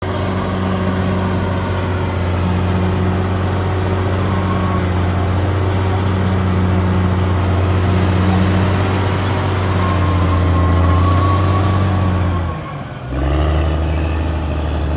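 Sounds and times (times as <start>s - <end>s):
bulldozer diesel engine running: 0.0s - 14.9s
faint high squeaks: 0.1s - 13.1s.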